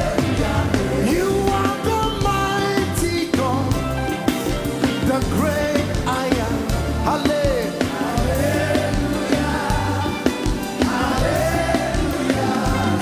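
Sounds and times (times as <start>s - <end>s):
band with bass and drums: 0.0s - 13.0s
voices singing gospel: 0.0s - 13.0s.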